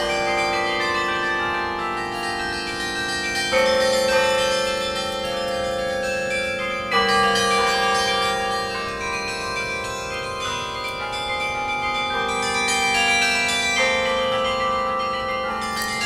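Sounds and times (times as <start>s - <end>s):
carillon bells ringing: 0.0s - 16.0s.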